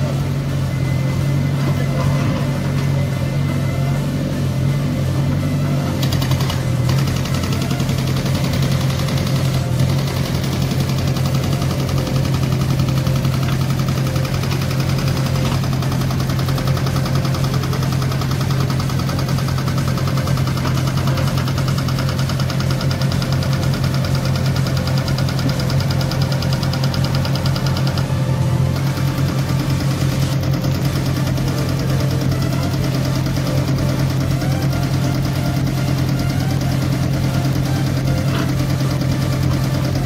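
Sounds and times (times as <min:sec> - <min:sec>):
backhoe diesel engine running: 0:00.0 - 0:40.0
backhoe digging earth: 0:00.0 - 0:40.0.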